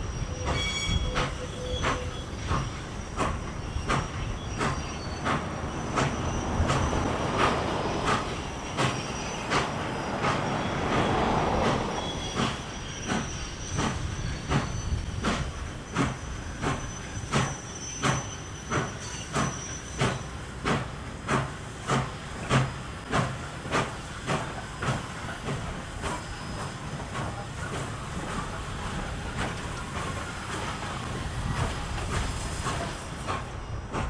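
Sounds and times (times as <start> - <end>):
steam locomotive exhaust chuffs: 0.0 - 34.0.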